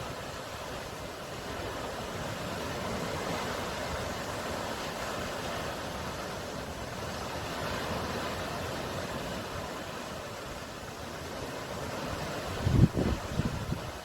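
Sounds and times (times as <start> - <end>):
ocean surf: 0.0 - 14.0.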